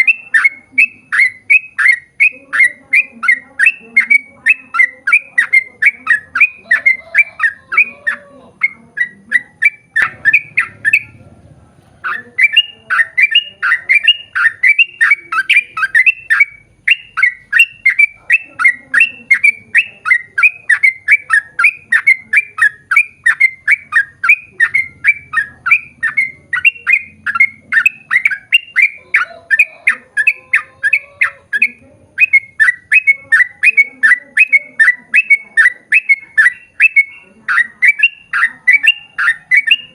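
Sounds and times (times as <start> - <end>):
bulbul chirping rapidly: 0.0 - 11.3, 12.0 - 39.9.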